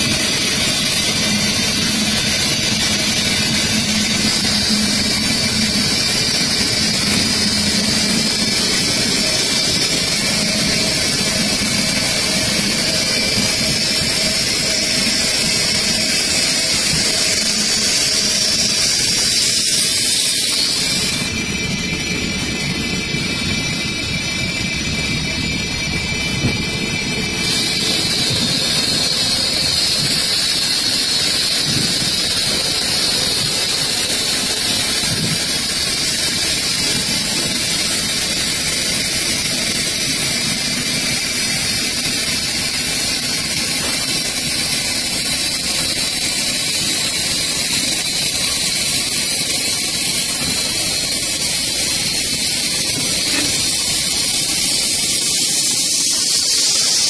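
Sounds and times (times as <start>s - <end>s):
wood lathe cutting hiss: 0.0s - 57.0s.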